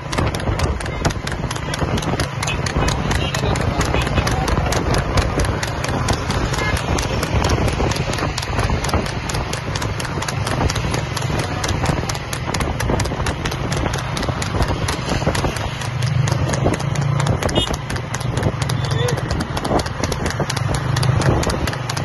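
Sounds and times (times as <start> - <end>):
hooves trotting on asphalt: 0.0 - 22.0
steady rushing noise: 0.0 - 22.0.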